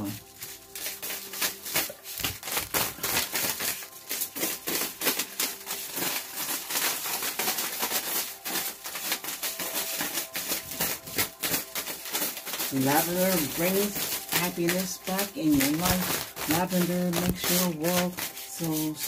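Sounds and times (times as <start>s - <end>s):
close-up rustling and crinkling: 0.0s - 19.0s.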